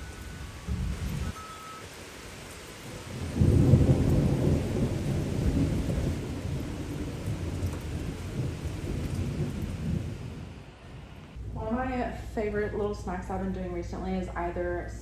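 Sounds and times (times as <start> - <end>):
thunderclap rumbling: 0.0 - 1.4, 2.8 - 14.0.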